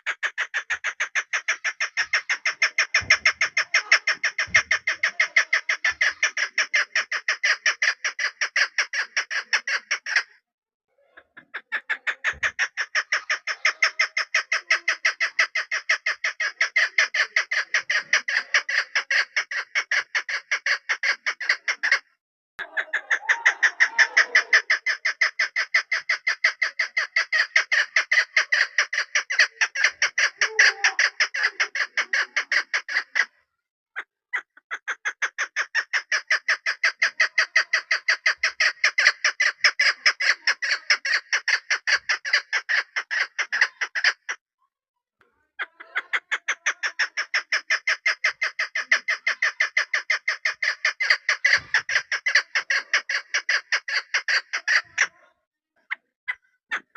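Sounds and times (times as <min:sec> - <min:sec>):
partridge chuk calls: 0:00.0 - 0:10.2, 0:11.4 - 0:22.0, 0:22.6 - 0:33.3, 0:34.8 - 0:44.2, 0:45.6 - 0:55.0.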